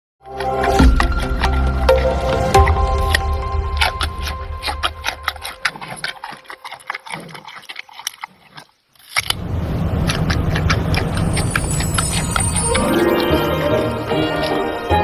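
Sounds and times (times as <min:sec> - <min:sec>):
panda crunching a carrot: 0:00.2 - 0:15.0.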